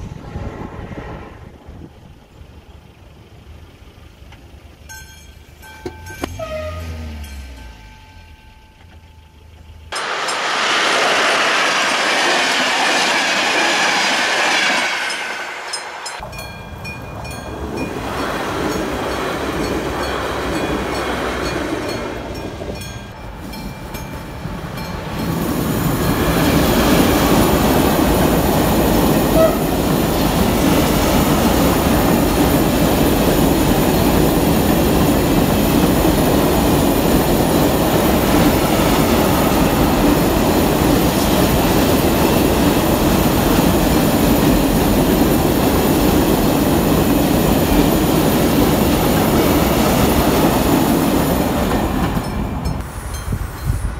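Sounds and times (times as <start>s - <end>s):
train wheels rushing on track: 0.0s - 53.9s.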